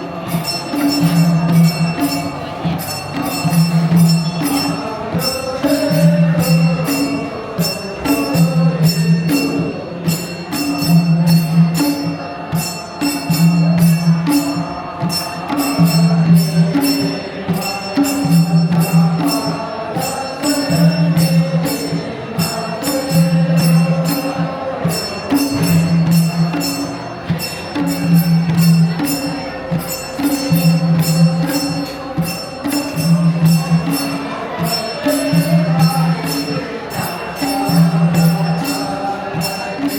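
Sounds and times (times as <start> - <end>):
jingling percussion: 0.0 - 39.9
voices singing: 0.0 - 39.9.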